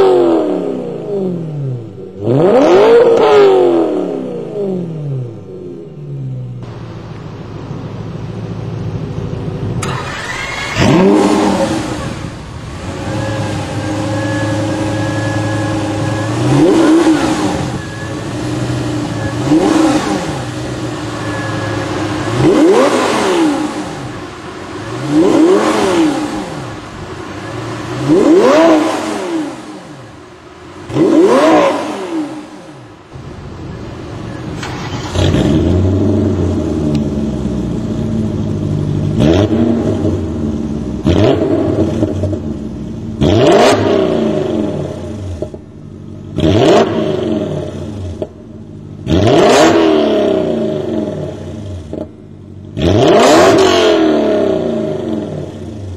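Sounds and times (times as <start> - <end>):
sports car engine revving: 0.0 - 55.9.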